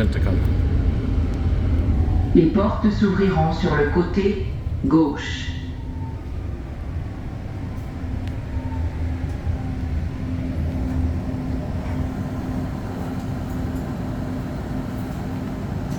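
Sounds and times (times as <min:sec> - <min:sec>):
faint falling whine: 0:00.0 - 0:15.7
train rumbling and humming: 0:00.0 - 0:15.9.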